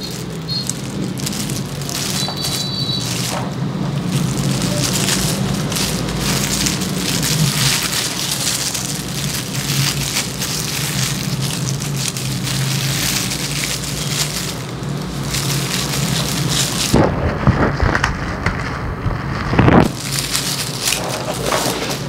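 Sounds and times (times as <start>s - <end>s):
plastic gloves and papers rustling: 0.0s - 22.0s.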